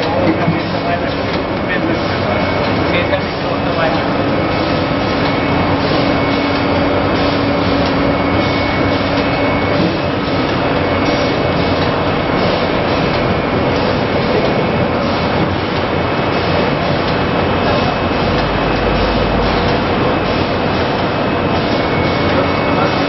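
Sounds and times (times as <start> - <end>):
factory machinery running: 0.0 - 23.0
machinery hums: 0.0 - 23.0.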